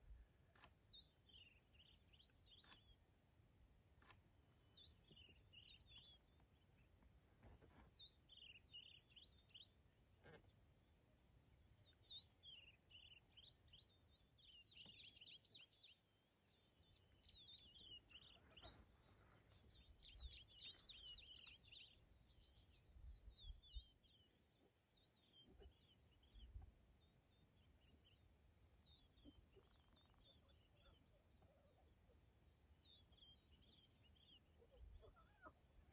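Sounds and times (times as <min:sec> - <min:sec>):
birds chirping: 0:00.5 - 0:03.0, 0:04.0 - 0:07.0, 0:11.7 - 0:35.9.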